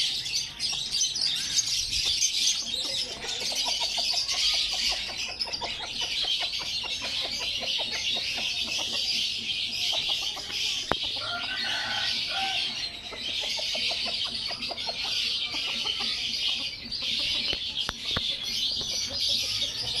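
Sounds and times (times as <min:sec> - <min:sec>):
chickens clucking: 0:00.0 - 0:20.0
high-pitched chatter: 0:00.0 - 0:20.0.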